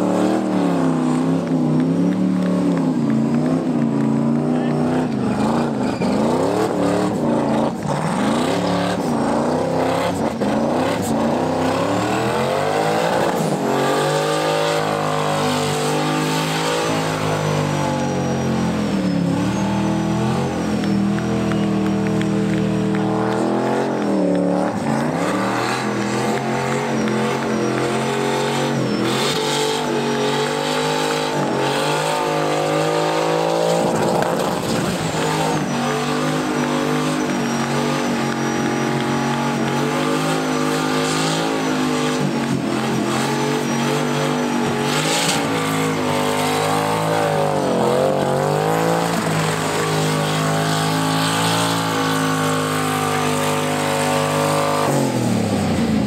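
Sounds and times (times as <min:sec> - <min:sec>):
car engine revving: 0:00.0 - 0:56.0
tyres squealing on asphalt: 0:00.0 - 0:56.0.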